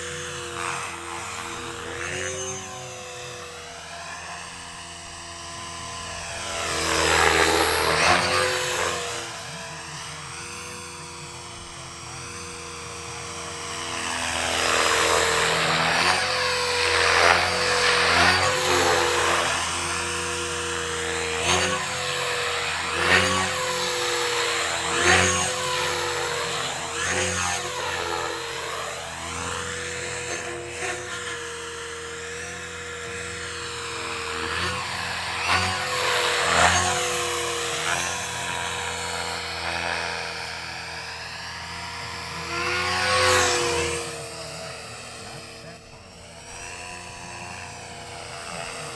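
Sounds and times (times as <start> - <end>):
rc helicopter motor and rotor whine: 0.0 - 48.9.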